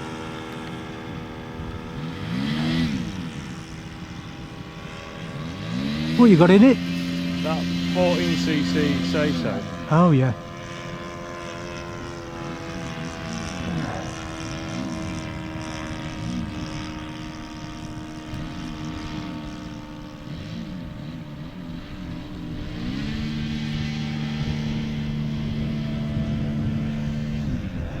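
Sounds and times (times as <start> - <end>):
model aircraft engine and propeller: 0.0 - 28.0.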